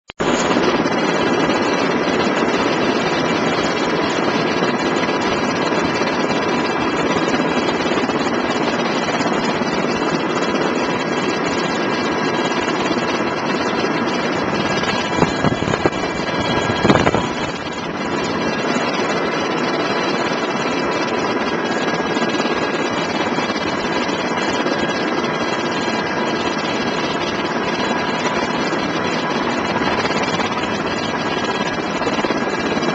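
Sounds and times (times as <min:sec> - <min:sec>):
helicopter rotor and engine noise: 0:00.2 - 0:32.9.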